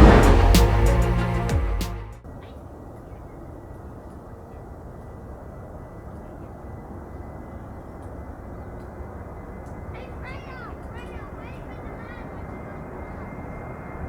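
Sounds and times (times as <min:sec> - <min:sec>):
jet airliner engines rumbling: 0:00.0 - 0:01.3, 0:02.4 - 0:14.0.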